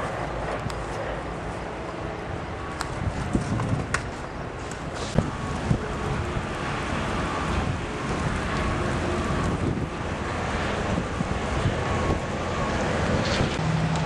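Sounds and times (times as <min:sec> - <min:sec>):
road rumble: 0:00.0 - 0:14.0
wind noise on microphone: 0:00.0 - 0:14.0.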